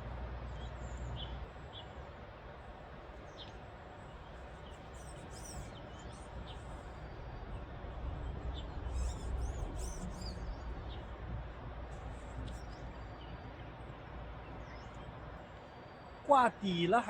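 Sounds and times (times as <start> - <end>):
birds chirping: 0.4 - 17.0.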